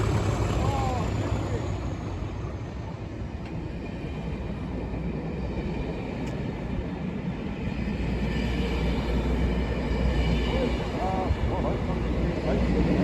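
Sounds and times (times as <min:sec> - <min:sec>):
diesel locomotives rumbling: 0:00.0 - 0:13.0.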